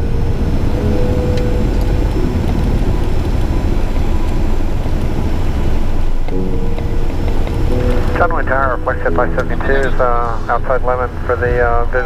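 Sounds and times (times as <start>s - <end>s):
faint hum: 0.0s - 12.0s
jet engine low rumble: 0.0s - 12.0s.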